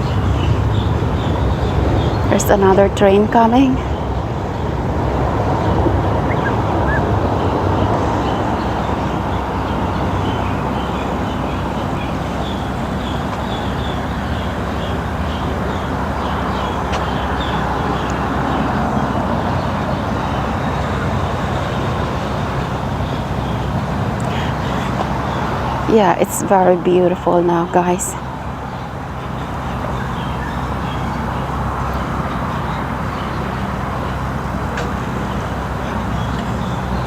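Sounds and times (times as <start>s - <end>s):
metro train rumble and hiss: 0.0s - 37.0s.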